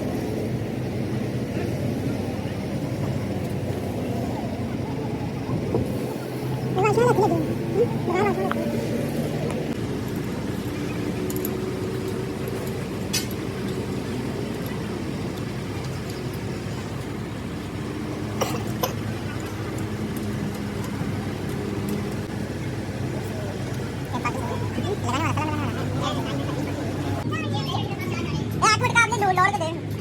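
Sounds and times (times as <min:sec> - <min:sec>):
diesel engine idling: 0:00.0 - 0:27.2.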